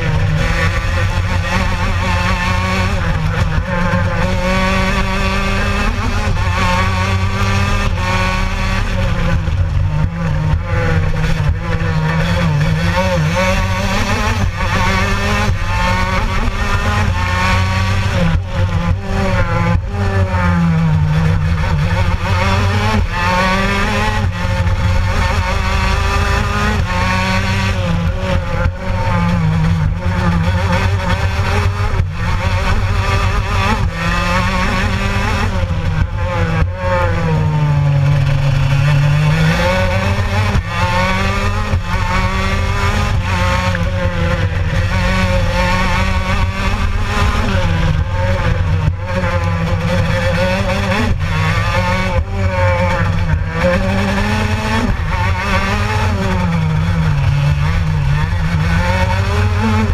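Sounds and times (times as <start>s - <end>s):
two-stroke kart engine revving: 0.0s - 59.9s.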